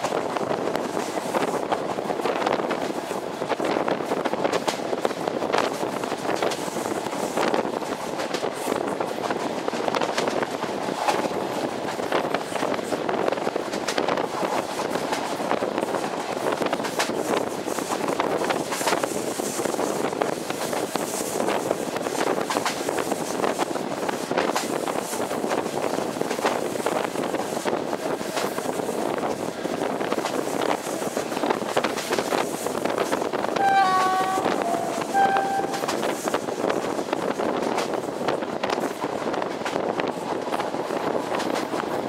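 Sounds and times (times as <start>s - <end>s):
train wheels clicking on rails: 0.0s - 33.6s, 35.8s - 42.0s
wind rushing over microphone: 0.0s - 42.0s.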